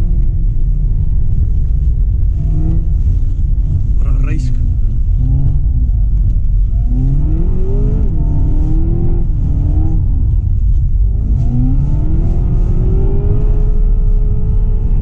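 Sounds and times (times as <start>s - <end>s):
car engine revving: 0.0s - 15.0s
low rumble: 0.0s - 15.0s.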